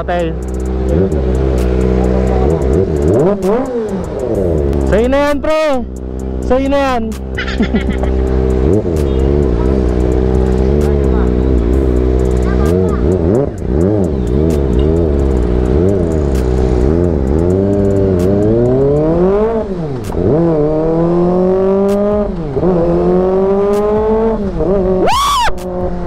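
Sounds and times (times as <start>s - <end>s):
motorcycle accelerating through gears: 0.0s - 5.0s, 7.2s - 26.0s
motorcycle engine revving: 0.0s - 26.0s.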